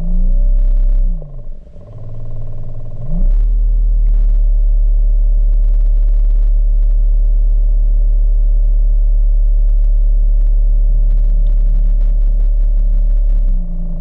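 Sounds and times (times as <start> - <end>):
underwater thruster motors humming: 0.0 - 14.0.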